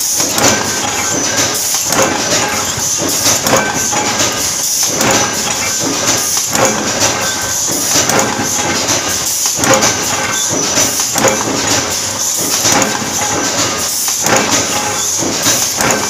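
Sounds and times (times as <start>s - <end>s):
metallic knocks and clanks: 0.0s - 16.0s
sheet-metal shop machinery din: 0.0s - 16.0s.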